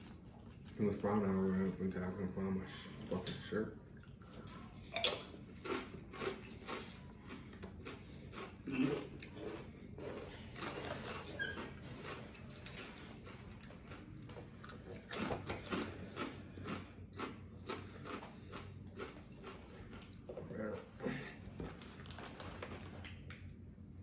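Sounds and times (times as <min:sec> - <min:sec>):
chewing and crunching food: 0:00.0 - 0:23.6.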